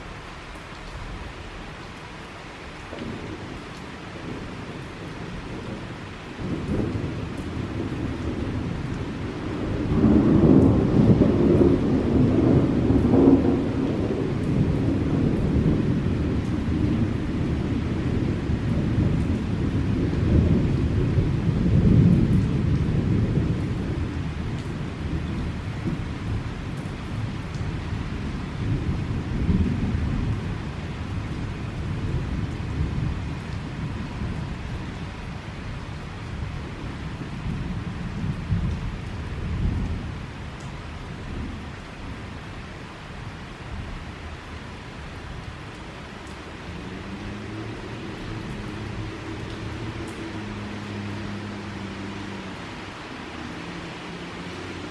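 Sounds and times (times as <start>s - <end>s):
steady rainfall: 0.0s - 54.9s
rolling thunder rumbling: 2.9s - 42.6s, 43.2s - 54.9s.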